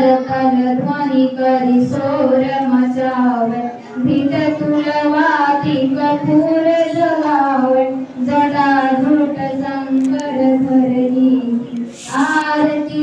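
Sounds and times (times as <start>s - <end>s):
children singing a hymn: 0.0s - 13.0s.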